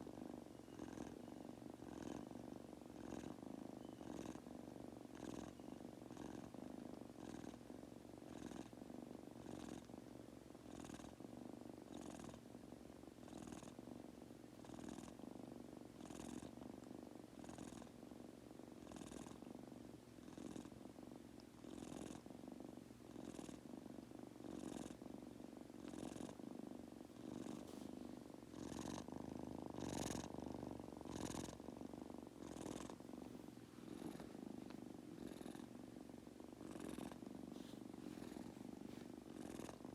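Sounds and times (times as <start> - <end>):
kitten purring: 0.0 - 39.9
soft breathy hiss: 0.0 - 39.9.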